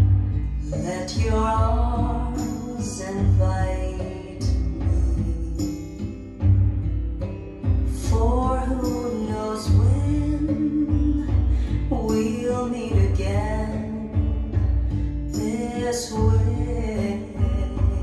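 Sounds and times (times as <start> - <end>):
singer's voice: 0.0 - 6.5, 7.8 - 18.0
steady bass line: 0.0 - 18.0.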